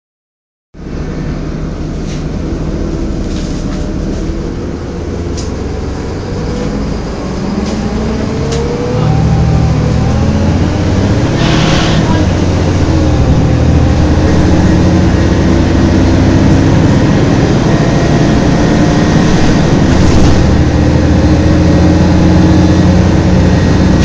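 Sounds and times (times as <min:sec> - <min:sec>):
bus engine and road drone: 0:00.8 - 0:24.0
rising whine: 0:00.8 - 0:24.0.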